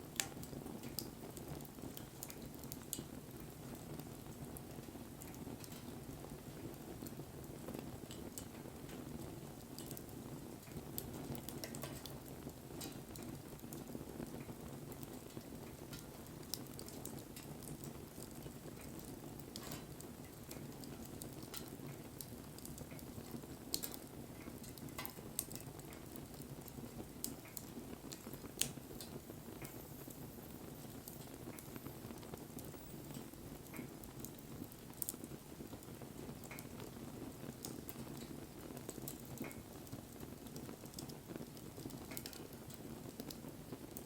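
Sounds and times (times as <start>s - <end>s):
fire crackles and pops: 0.0s - 44.0s.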